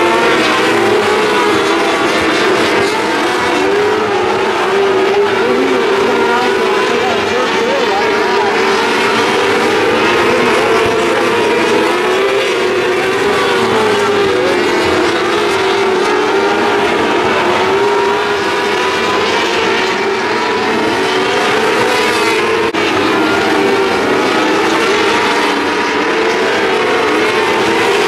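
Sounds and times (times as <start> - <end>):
racing car engines wailing: 0.0 - 28.0.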